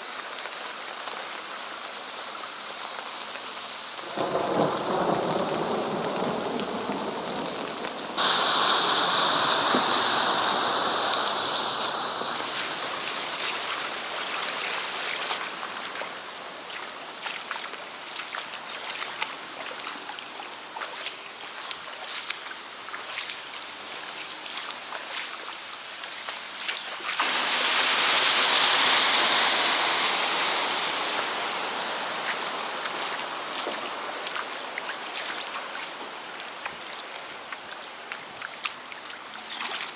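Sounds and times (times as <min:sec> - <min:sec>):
small drips and splashes: 0:00.0 - 0:08.2, 0:12.3 - 0:39.9
loud rush of water: 0:00.0 - 0:39.9
rain on the street: 0:00.0 - 0:39.9.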